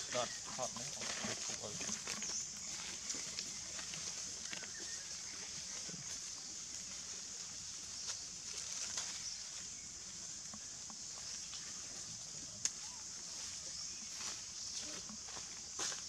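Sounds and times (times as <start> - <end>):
rustling in dry leaves: 0.0 - 16.0
steady high-pitched hiss: 0.0 - 16.0.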